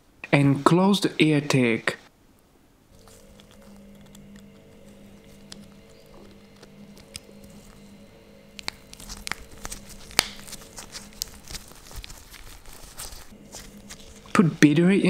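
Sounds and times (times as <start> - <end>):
faint steady hum: 0.0 - 15.0
handling sounds: 2.9 - 15.0.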